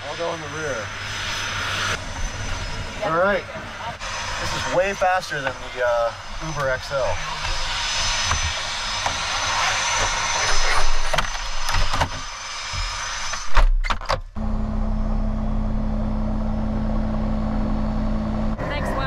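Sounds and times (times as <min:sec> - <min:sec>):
high whine: 0:00.0 - 0:19.0
propeller airplane engine drone: 0:00.0 - 0:19.0.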